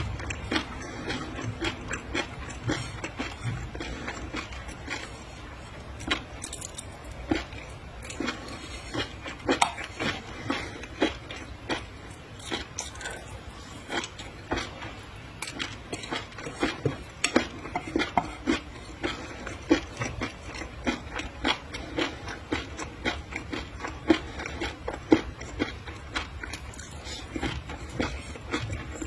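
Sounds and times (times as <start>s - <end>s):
wet chewing clicks and smacks: 0.1s - 5.3s, 6.0s - 29.0s.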